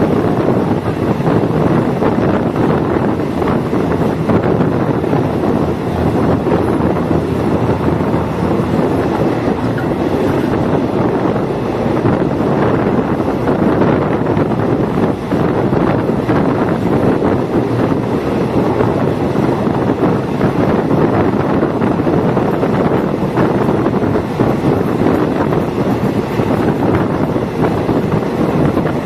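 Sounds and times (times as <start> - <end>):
train wheels and engine: 0.0 - 29.0
wind buffeting microphone: 0.0 - 29.0.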